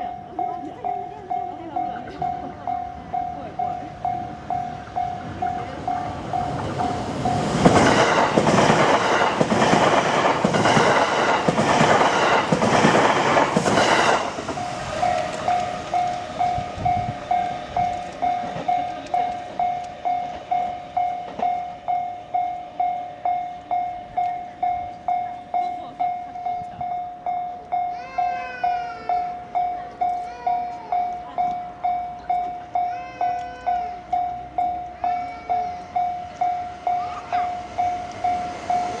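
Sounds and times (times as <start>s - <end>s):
level-crossing bell ringing: 0.0s - 9.2s, 14.5s - 39.0s
train wheels clacking: 0.0s - 28.0s, 28.7s - 39.0s
electric train passing: 0.0s - 39.0s.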